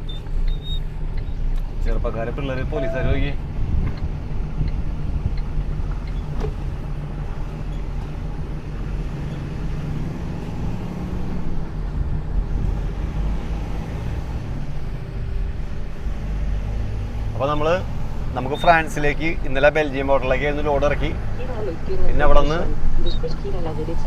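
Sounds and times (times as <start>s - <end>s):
road noise: 0.0s - 24.0s
truck engine running: 0.0s - 24.0s.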